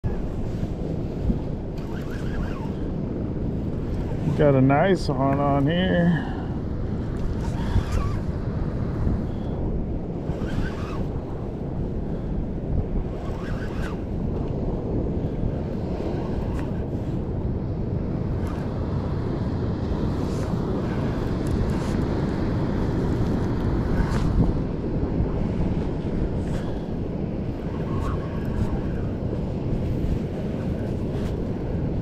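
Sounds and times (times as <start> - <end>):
sea: 0.0 - 32.0
wind buffeting microphone: 0.0 - 32.0.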